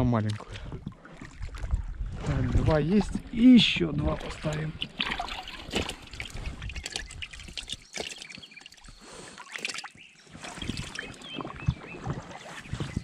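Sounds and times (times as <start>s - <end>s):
light water splashes: 0.0s - 13.0s
oars dipping and dripping: 0.0s - 13.0s.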